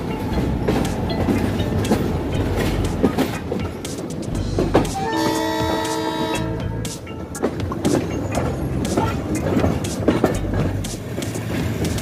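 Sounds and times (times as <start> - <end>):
train coaches rumbling: 0.0 - 12.0
train wheels clicking on rail joints: 0.0 - 12.0.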